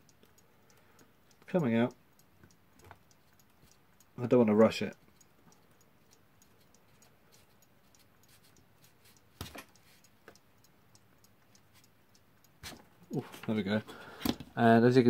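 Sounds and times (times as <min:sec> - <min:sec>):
clock ticking: 0:00.0 - 0:15.0.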